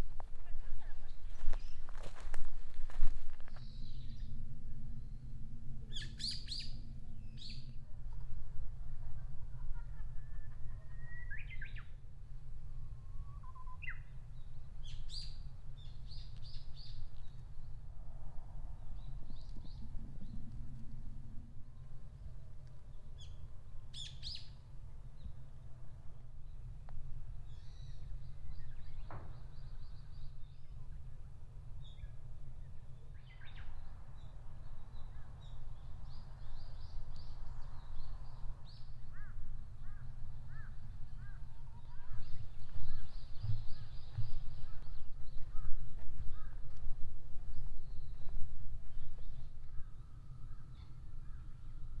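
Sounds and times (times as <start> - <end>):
steady low rumble: 0.0 - 13.4, 14.0 - 52.0
wild birds chirping: 3.4 - 7.8, 12.9 - 18.0, 18.6 - 46.7, 47.5 - 52.0.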